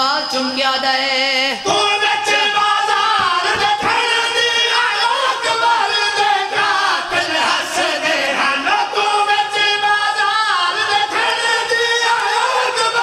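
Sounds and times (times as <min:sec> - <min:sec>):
men singing along: 0:01.5 - 0:13.0.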